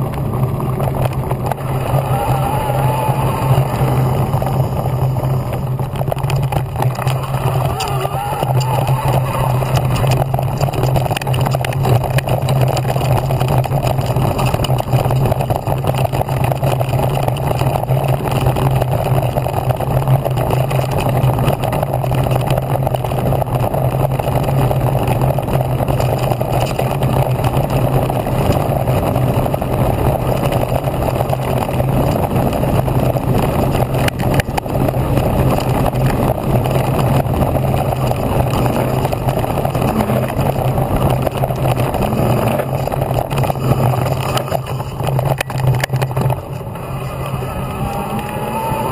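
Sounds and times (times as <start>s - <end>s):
low drone of electric bike: 0.0s - 48.9s
tyres and frame rumbling and rattling: 0.0s - 48.9s.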